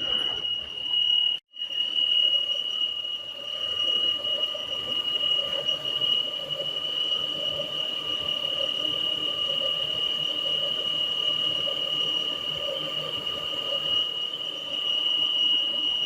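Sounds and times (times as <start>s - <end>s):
high-pitched squeal: 0.0s - 16.0s.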